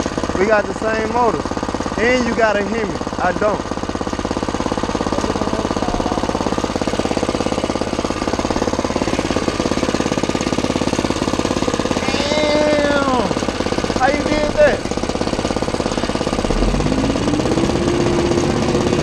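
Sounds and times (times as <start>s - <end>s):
engine idling with rapid chugging: 0.0s - 19.0s.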